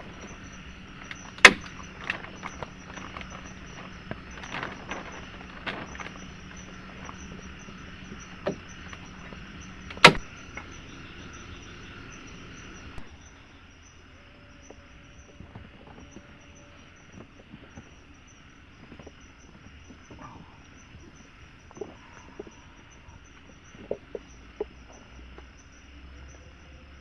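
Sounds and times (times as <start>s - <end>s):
pulsing insect trill: 0.0s - 27.0s.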